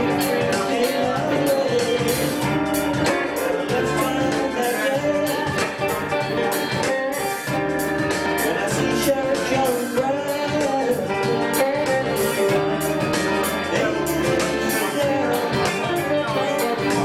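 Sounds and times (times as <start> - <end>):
electric guitars playing: 0.0 - 17.0.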